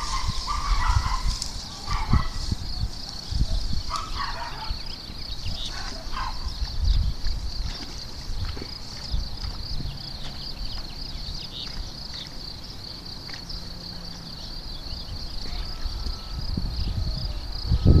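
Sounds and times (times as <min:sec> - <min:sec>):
pulsing insect chorus: 0:00.0 - 0:18.0.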